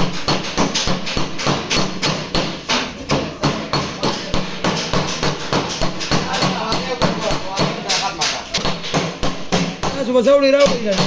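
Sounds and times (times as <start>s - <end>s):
hammering on sheet metal: 0.0s - 11.0s.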